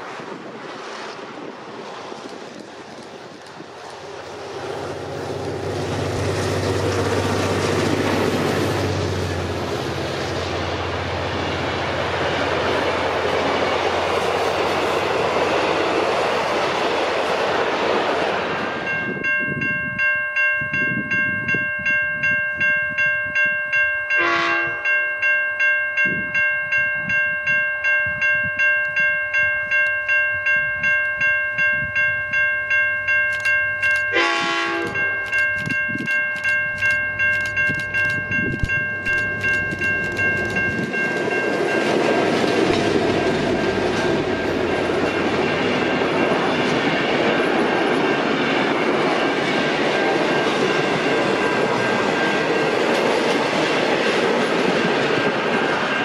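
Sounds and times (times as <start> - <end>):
diesel locomotive engine: 0.0 - 20.0, 28.0 - 56.0
wheel and rail noise: 0.0 - 24.1, 24.7 - 56.0.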